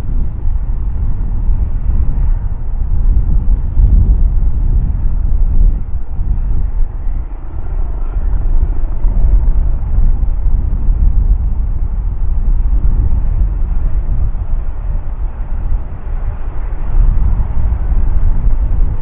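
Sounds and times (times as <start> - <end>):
helicopter rotor and engines rumbling: 0.0 - 19.0.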